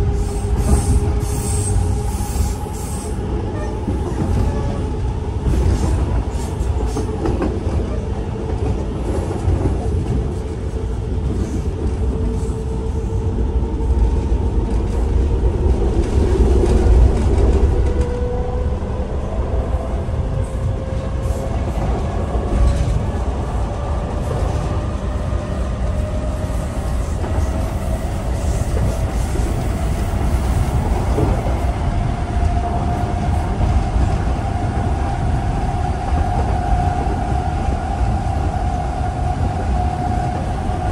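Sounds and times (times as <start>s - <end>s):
train running gear rumble: 0.0s - 40.9s.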